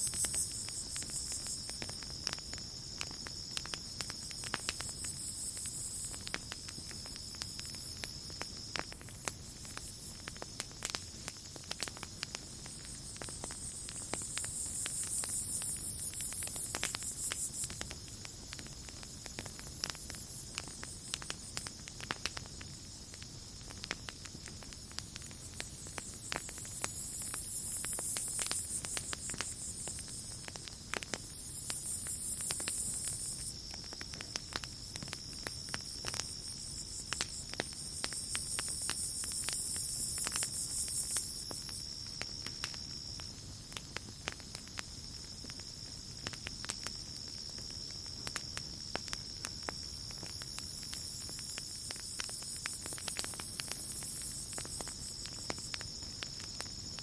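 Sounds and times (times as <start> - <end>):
campfire crackling and popping: 0.0 - 57.0
night insects trilling: 0.0 - 57.0.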